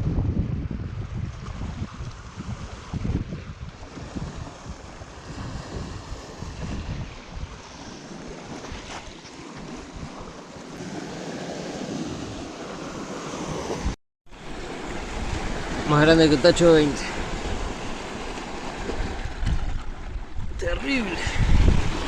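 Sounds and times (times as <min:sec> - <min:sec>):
wind buffeting microphone: 0:00.0 - 0:10.3, 0:12.1 - 0:22.0.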